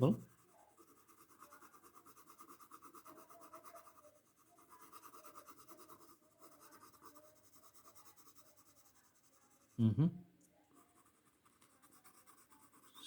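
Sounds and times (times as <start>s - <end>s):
colouring strokes on paper: 0.0s - 9.8s, 10.6s - 13.0s.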